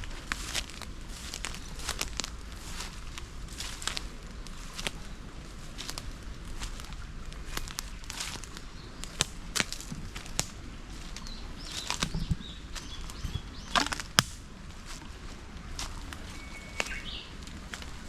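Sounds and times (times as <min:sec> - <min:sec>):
twigs snapping underfoot: 0:00.0 - 0:05.0, 0:05.6 - 0:18.0
footsteps on forest path: 0:00.0 - 0:18.0.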